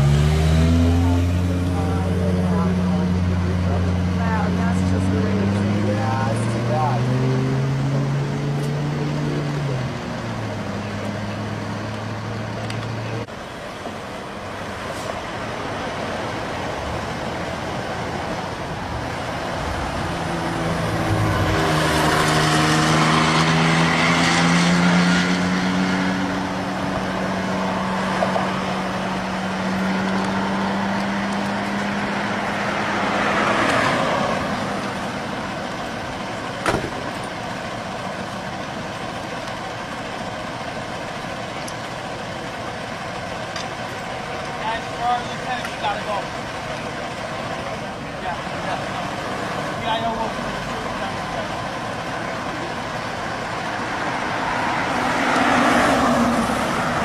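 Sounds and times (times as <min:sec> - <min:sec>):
heavy vehicle engine: 0:00.0 - 0:57.0
vehicles driving past: 0:00.0 - 0:57.0.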